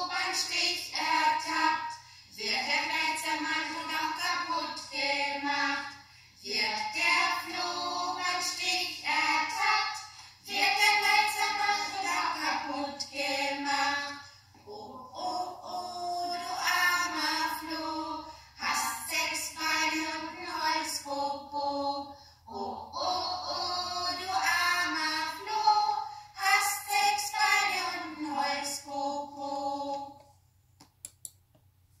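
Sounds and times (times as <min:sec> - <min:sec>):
voices singing children's song: 0:00.0 - 0:30.4.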